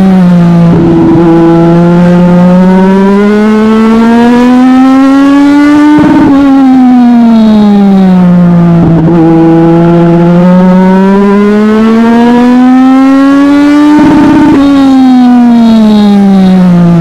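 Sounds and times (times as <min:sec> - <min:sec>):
race car engine: 0:00.0 - 0:17.0.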